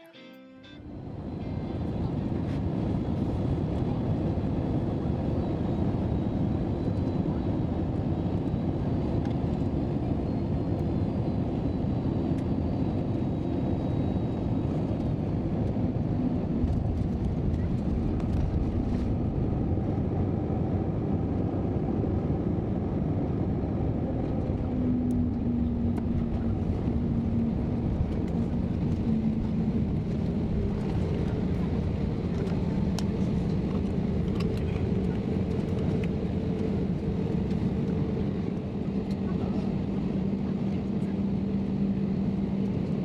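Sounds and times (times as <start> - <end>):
airliner cabin engine drone: 0.0 - 43.0.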